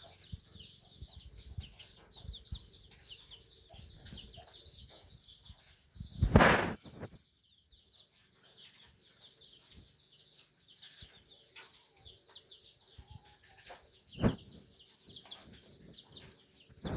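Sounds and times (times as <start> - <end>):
chickens clucking: 0.0 - 7.1, 7.8 - 16.9
birds chirping: 0.0 - 16.9.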